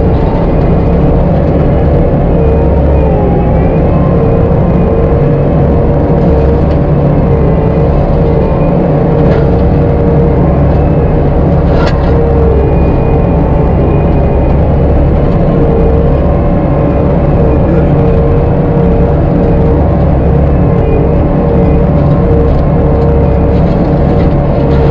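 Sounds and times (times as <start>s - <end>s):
mulcher machine drone with whine: 0.0s - 24.9s.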